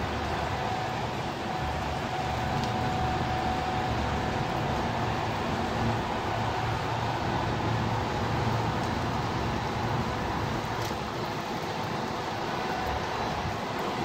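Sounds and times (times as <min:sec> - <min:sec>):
faint steady whine: 0:00.0 - 0:14.0
rain hiss: 0:00.0 - 0:14.0
wet traffic: 0:00.0 - 0:14.0.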